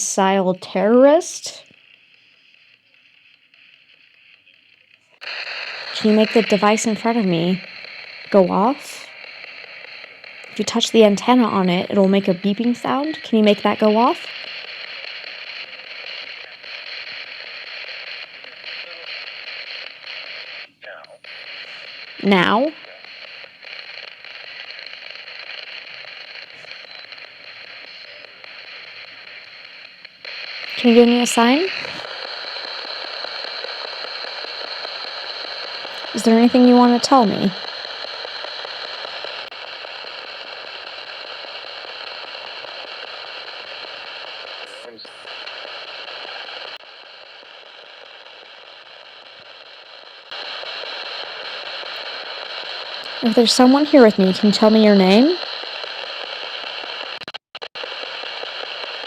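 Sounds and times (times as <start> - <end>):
radio static hiss with crackles: 0.0 - 59.0.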